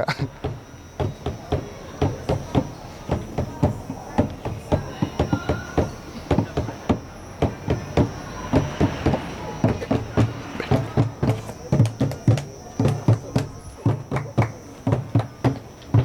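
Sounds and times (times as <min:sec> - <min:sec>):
hand drums beaten: 0:00.3 - 0:16.0.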